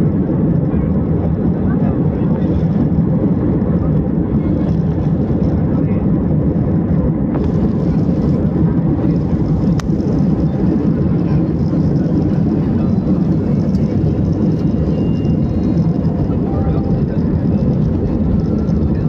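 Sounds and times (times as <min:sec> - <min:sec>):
airliner engines roaring in cabin: 0:00.0 - 0:19.0.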